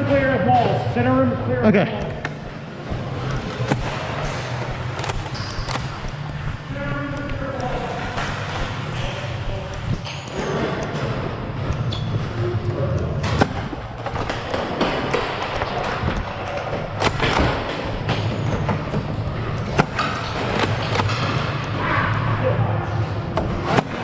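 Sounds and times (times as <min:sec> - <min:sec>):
indistinct voices: 0:00.0 - 0:24.0.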